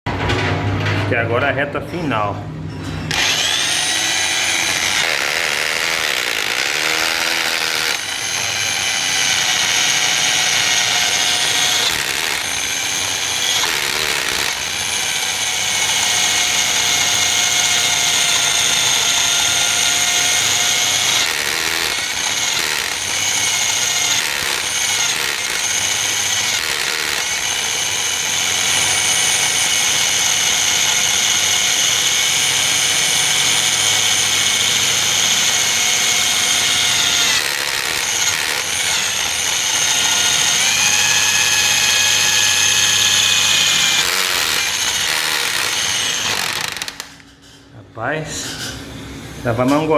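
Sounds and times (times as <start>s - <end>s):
electric drill with hole saw: 3.1s - 47.3s.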